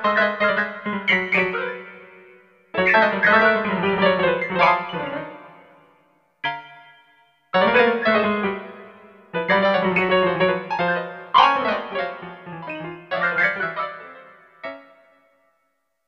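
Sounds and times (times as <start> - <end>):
midi piano music: 0.0 - 15.6.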